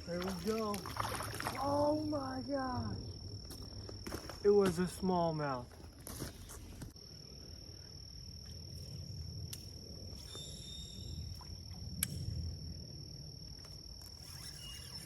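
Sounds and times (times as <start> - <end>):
insect trill: 0.0 - 15.0.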